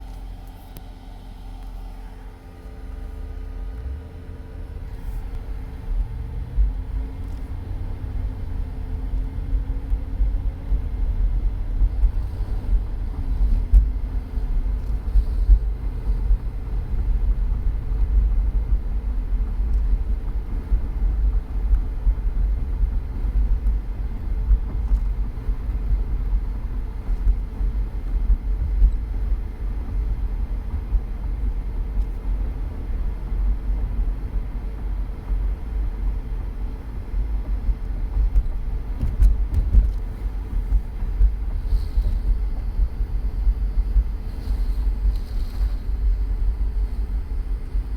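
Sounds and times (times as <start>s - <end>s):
car low rumble: 0.0s - 47.9s
faint hum: 0.0s - 47.9s.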